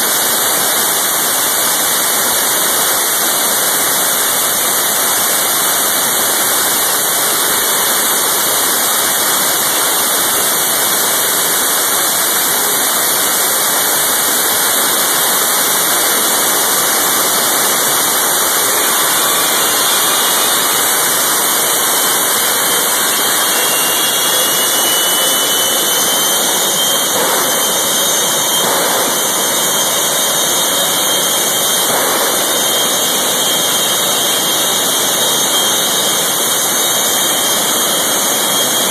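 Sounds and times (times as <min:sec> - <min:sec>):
turbine engine rushing: 0:00.0 - 0:38.9
high whine rising in pitch: 0:01.9 - 0:38.9.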